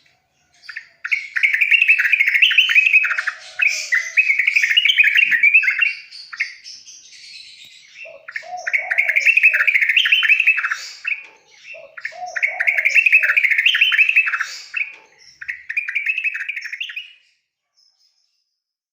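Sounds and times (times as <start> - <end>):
bird chattering song: 0.0 - 18.0.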